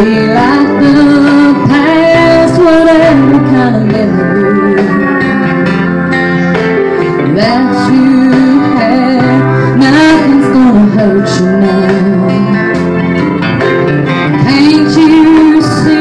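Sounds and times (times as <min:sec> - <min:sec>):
country backing track with guitar: 0:00.0 - 0:16.0
woman singing into a microphone: 0:00.0 - 0:16.0.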